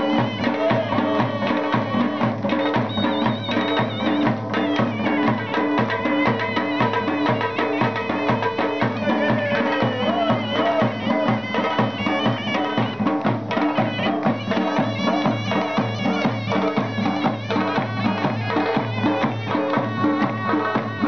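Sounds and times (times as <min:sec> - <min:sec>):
dhol drum beating: 0:00.0 - 0:21.0
shrill reed pipe melody: 0:00.0 - 0:21.0.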